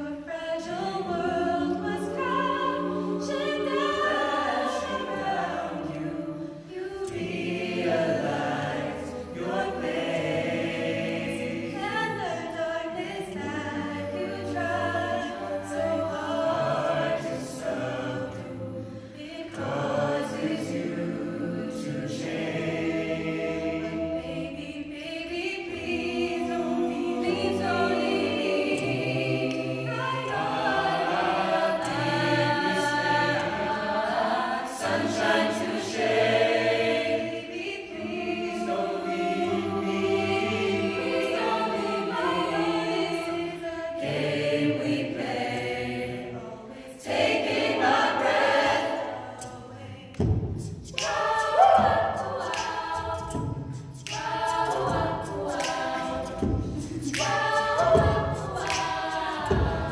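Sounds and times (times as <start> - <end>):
sustained backing harmonies: 0.0 - 59.9.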